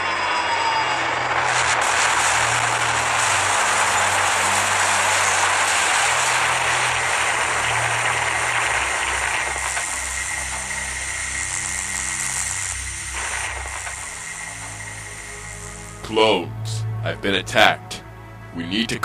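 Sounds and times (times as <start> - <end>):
rushing engine-like roar: 0.0 - 17.0
low sustained music notes: 0.0 - 19.0.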